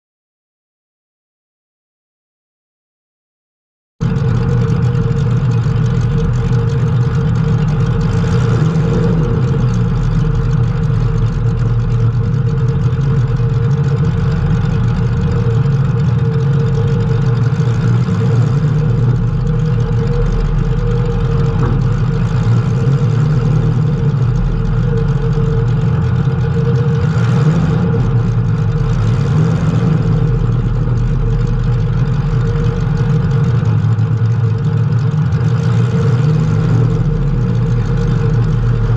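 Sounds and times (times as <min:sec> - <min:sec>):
race car engine running: 0:04.0 - 0:38.9
steady whine: 0:04.0 - 0:38.9.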